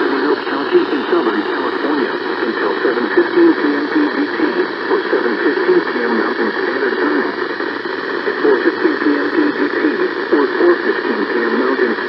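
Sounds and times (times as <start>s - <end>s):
radio hiss: 0.0s - 12.0s
voice over radio: 0.0s - 12.0s.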